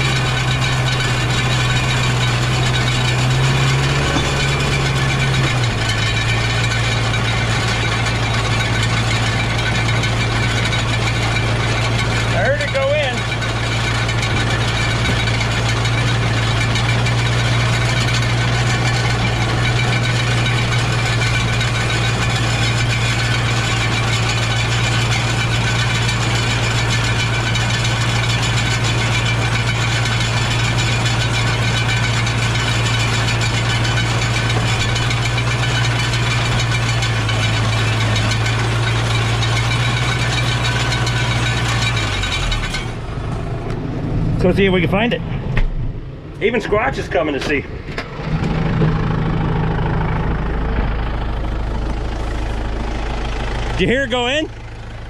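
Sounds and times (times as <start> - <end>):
hay baler mechanical rattle: 0.0 - 55.0
tractor engine running: 0.0 - 55.0.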